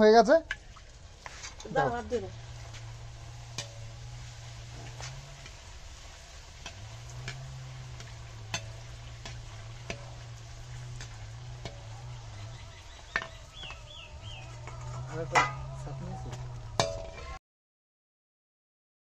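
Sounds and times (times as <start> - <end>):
food deep-frying in oil: 0.0 - 17.4.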